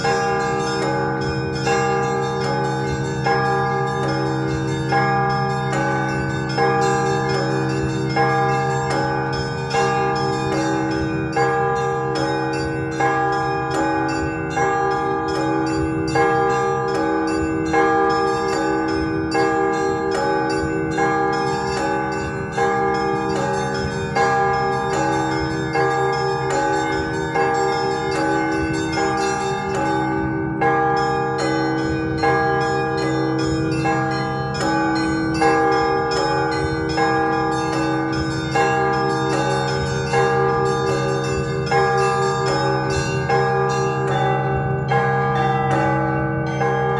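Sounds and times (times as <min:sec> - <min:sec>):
deep church bells ringing: 0:00.0 - 0:46.9.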